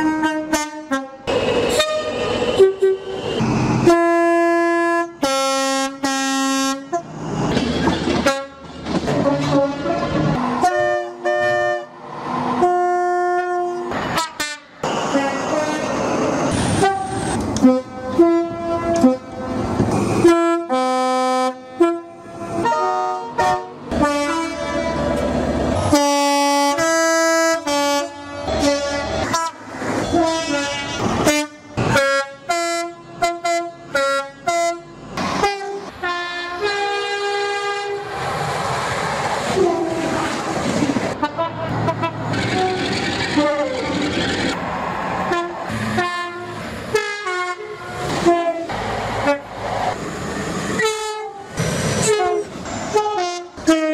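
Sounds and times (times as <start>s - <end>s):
train two-tone air horns: 0.0s - 7.1s, 7.8s - 38.1s, 39.5s - 40.5s, 41.1s - 44.0s, 45.3s - 49.5s, 50.8s - 53.9s.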